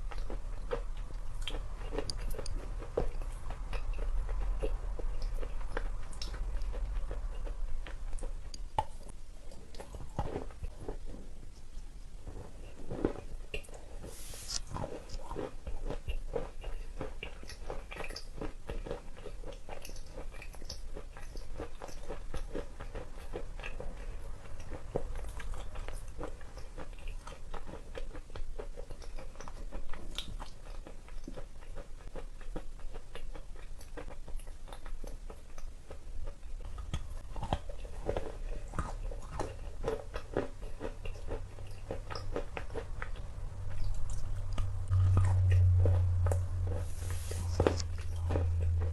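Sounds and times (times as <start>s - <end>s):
crunchy chalk chewing: 0.0s - 48.9s.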